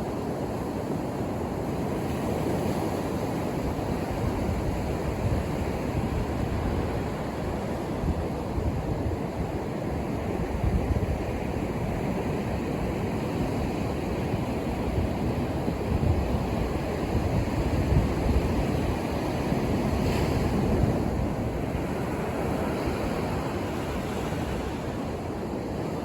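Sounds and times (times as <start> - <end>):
ocean surf rushing on beach: 0.0 - 26.0.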